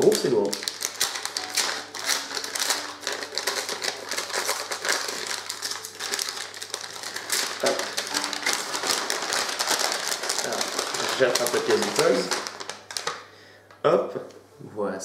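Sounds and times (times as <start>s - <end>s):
paper envelope crinkling: 0.0s - 13.3s.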